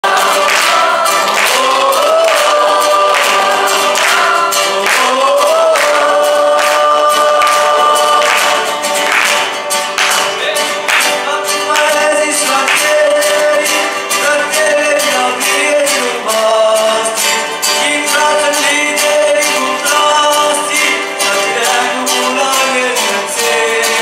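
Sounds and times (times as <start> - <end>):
strummed acoustic guitars: 0.0 - 24.0
young voices singing in unison: 0.0 - 24.0.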